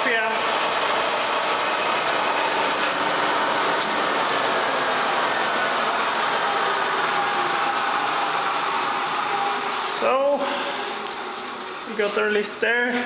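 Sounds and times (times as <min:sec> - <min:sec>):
lathe whirring: 0:00.0 - 0:13.0.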